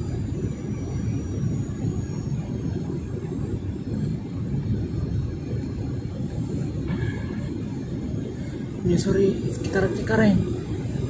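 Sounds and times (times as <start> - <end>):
airplane cabin low rumble: 0.0 - 11.0.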